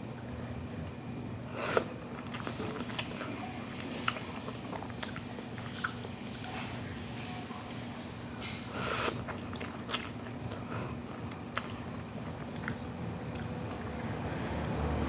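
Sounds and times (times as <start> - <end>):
wet chewing: 0.1 - 6.8, 7.6 - 15.0.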